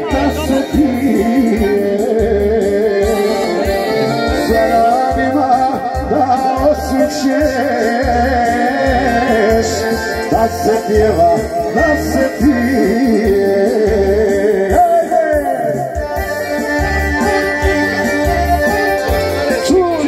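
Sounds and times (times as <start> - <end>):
keyboard band music: 0.0 - 20.0.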